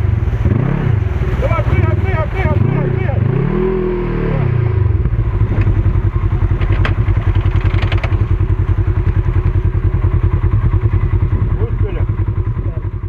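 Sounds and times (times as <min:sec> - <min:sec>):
off-road vehicle engine idling: 0:00.0 - 0:03.7, 0:04.3 - 0:13.0.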